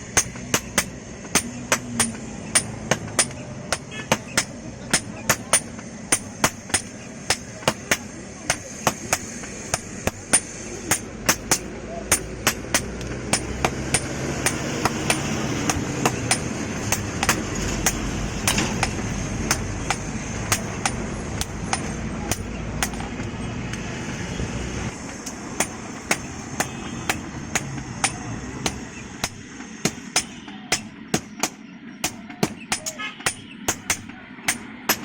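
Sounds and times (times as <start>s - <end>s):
hammer striking metal on anvil: 0.0s - 23.3s, 25.2s - 35.0s.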